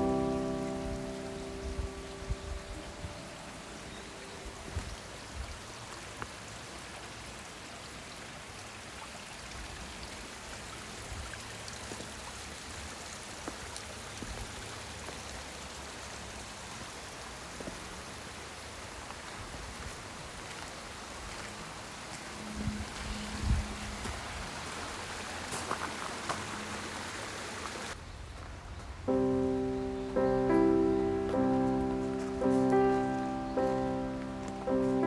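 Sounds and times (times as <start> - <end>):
stream water rushing: 0.0 - 28.0, 29.1 - 35.0.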